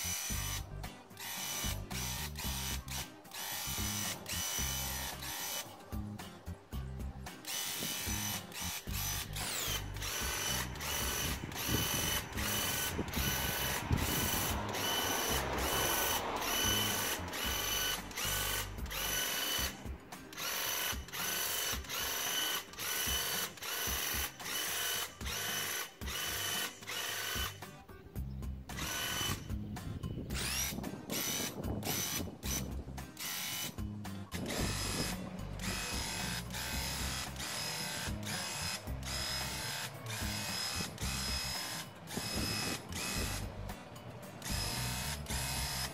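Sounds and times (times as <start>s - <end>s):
paint sprayer pump buzzing: 0.0s - 5.7s, 7.4s - 27.6s, 28.8s - 29.5s, 34.4s - 43.8s, 44.4s - 45.9s.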